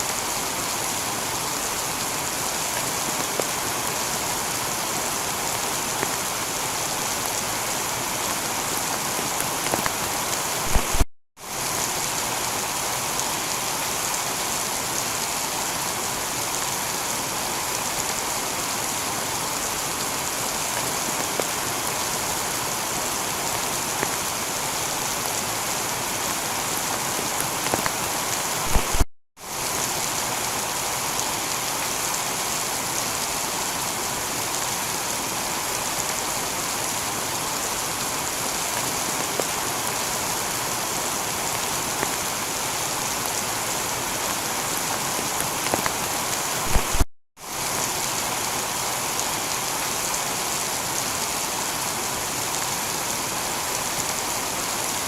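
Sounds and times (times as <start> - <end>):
heavy rain on a tiled roof: 0.0 - 55.0.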